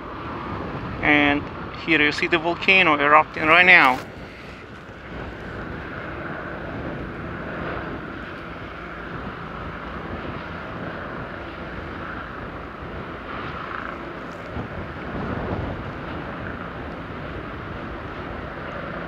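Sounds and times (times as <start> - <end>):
lava fountain roaring: 0.0 - 19.0.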